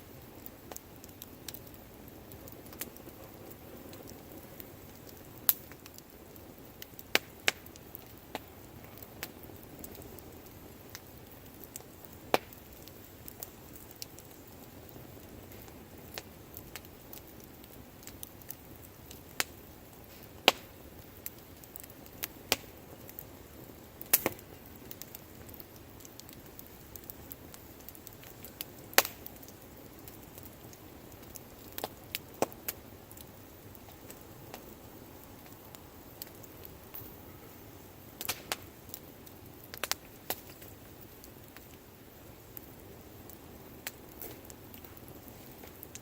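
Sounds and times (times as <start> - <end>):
crackles and pops of burning wood: 0.0 - 46.0
wood fire hissing: 0.0 - 46.0.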